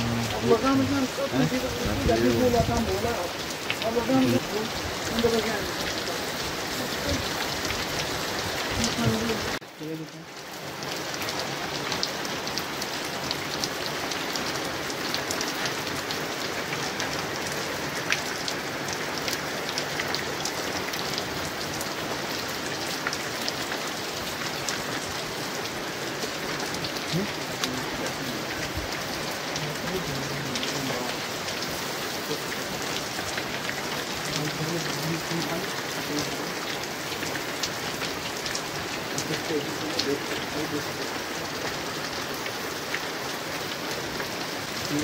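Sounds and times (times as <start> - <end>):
rain on hard surfaces: 0.0 - 45.0.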